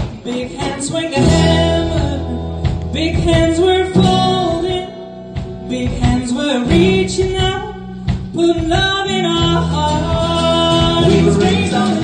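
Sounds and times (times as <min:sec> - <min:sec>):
guitar accompaniment: 0:00.0 - 0:12.0
person singing: 0:00.0 - 0:12.0.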